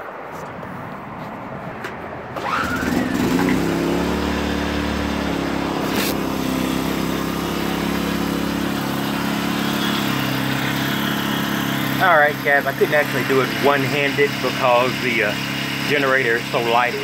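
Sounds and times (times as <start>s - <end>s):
small gasoline engine running: 2.4s - 17.0s.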